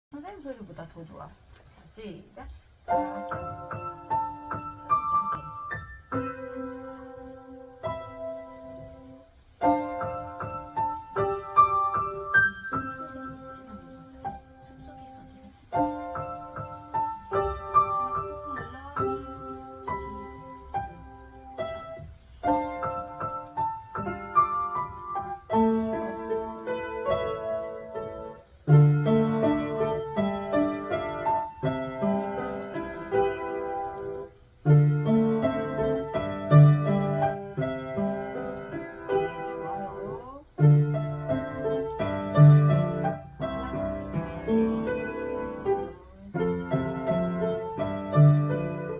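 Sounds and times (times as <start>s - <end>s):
slow solo piano piece: 2.8s - 48.9s.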